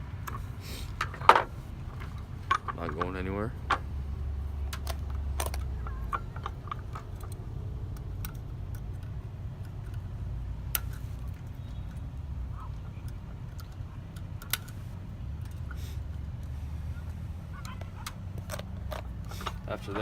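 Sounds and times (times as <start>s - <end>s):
steady low hum: 0.0s - 20.0s
small parts clicking: 0.2s - 20.0s.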